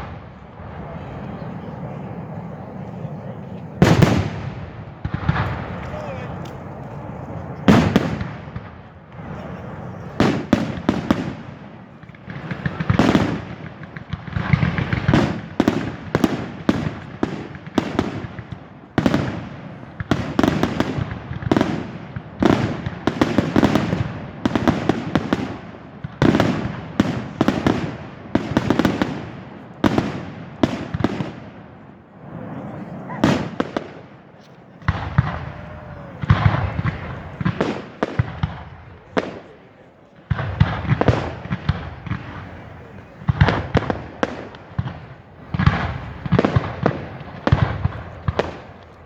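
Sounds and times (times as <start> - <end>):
firework crackling: 0.0 - 49.0.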